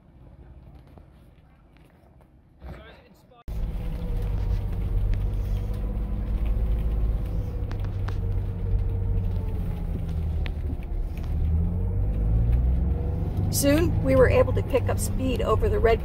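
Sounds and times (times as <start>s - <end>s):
engine and tyres rumbling: 0.0s - 16.0s.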